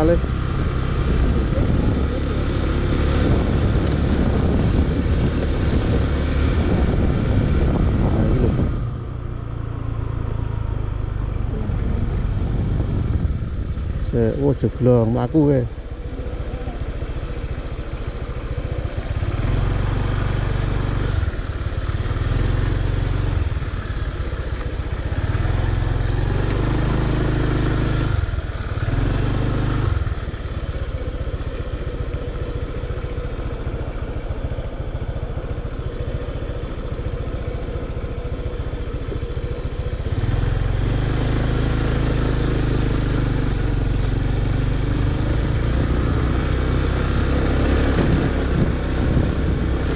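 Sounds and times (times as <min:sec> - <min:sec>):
motor scooter engine revving: 0:00.0 - 0:15.0, 0:15.8 - 0:49.9.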